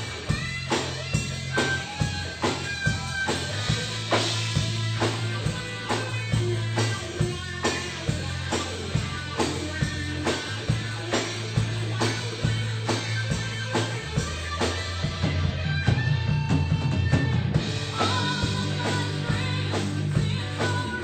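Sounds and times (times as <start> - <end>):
drum kit steady beat: 0.0 - 21.0
rock band playing: 0.0 - 21.0.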